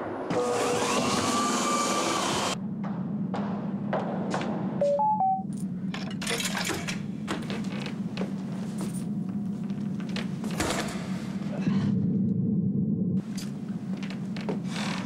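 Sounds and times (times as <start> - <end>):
steady low hum: 2.4 - 15.0.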